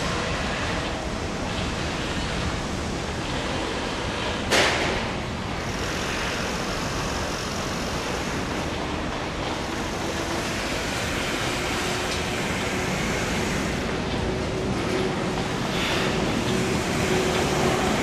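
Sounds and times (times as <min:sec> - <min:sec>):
freight train rumble and hiss: 0:00.0 - 0:18.0.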